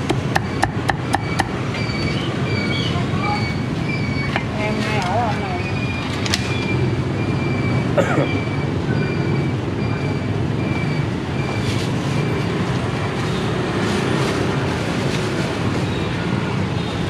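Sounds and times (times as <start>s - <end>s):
low rumble of passing traffic: 0.0s - 17.0s.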